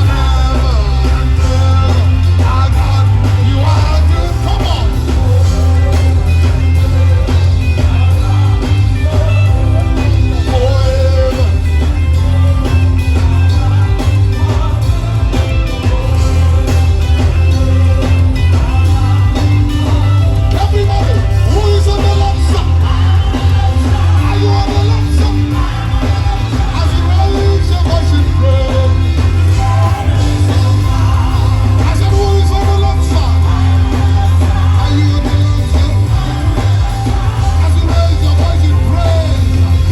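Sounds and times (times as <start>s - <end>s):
congregation singing: 0.0s - 39.9s
gospel band playing: 0.0s - 39.9s.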